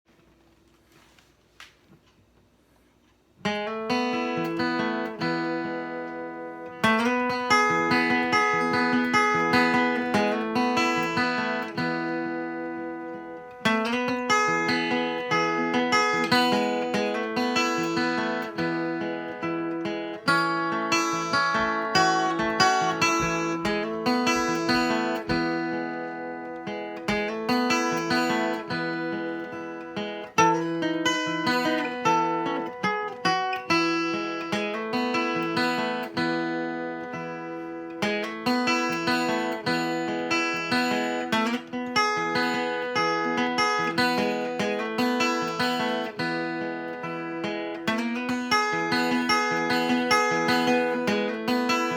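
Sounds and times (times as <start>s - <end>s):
acoustic guitar playing: 2.4s - 51.9s.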